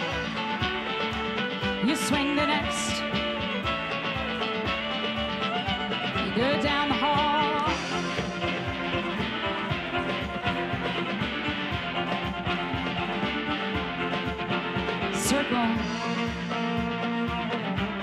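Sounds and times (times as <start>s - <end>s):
dance band playing upbeat tune: 0.0s - 18.0s.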